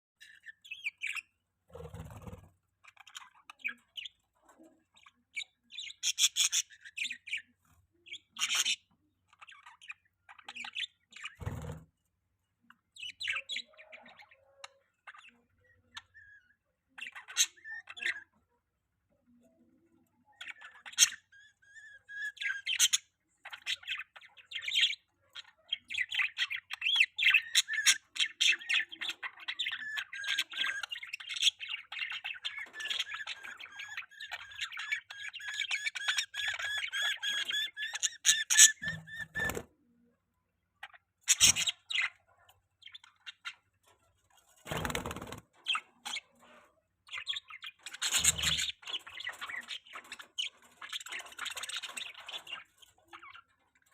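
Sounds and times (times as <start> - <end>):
budgerigars chirping and chattering: 0.2 - 11.8, 12.7 - 39.7, 40.7 - 53.9.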